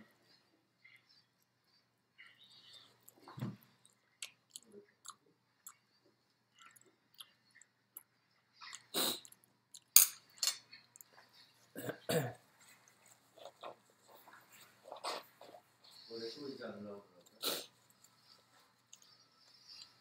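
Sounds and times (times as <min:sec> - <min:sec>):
person chewing food: 0:02.2 - 0:16.1, 0:17.2 - 0:20.0.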